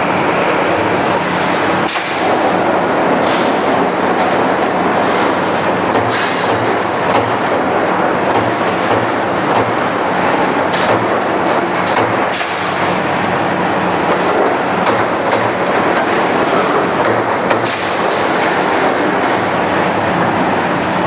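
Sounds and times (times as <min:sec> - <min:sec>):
punching machine din: 0:00.4 - 0:21.0.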